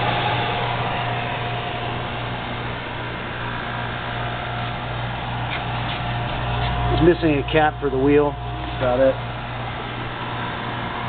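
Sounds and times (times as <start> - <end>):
dehumidifier fan humming: 0.0 - 11.0
faint steady whine: 0.0 - 11.0.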